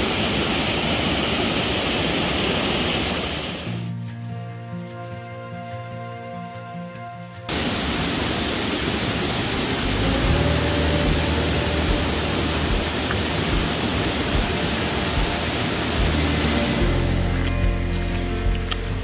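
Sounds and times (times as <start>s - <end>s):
fast-flowing water rushing: 0.0s - 3.8s, 7.5s - 19.0s.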